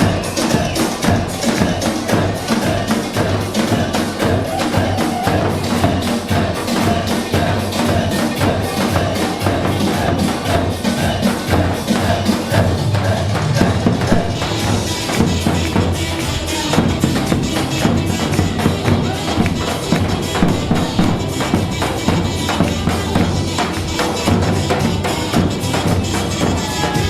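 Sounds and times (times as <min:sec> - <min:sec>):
dance music with fast percussion beat: 0:00.0 - 0:27.0.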